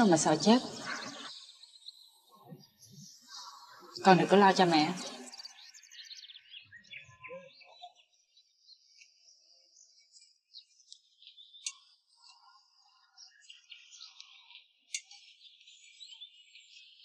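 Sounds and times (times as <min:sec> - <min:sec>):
faint bird-like chirping: 0:00.0 - 0:17.0.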